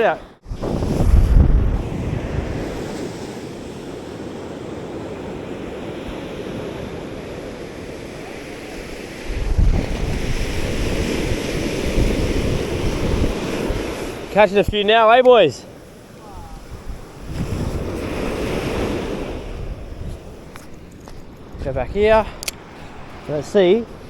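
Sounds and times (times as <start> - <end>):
surf washing on beach: 0.0 - 24.0
wind buffeting microphone: 0.0 - 24.0.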